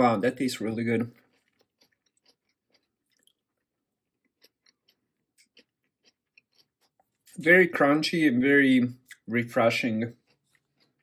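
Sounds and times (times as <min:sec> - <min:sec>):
chewing crunchy food: 0:00.0 - 0:08.0, 0:08.8 - 0:11.0.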